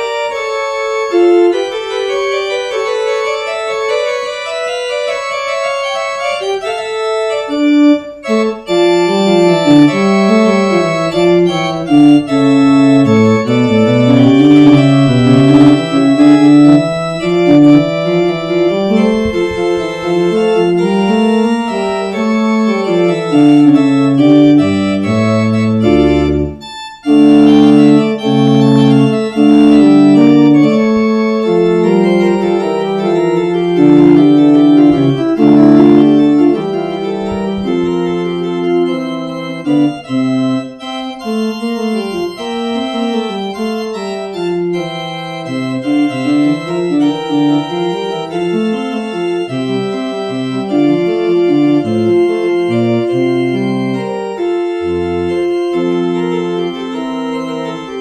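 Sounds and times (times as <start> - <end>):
organ playing held chords: 0.0 - 58.0.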